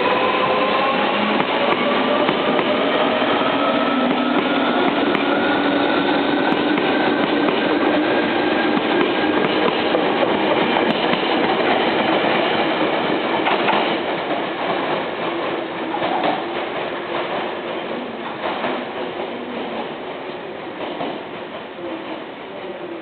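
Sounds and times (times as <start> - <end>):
electric train wheels clattering: 0.1 - 19.9.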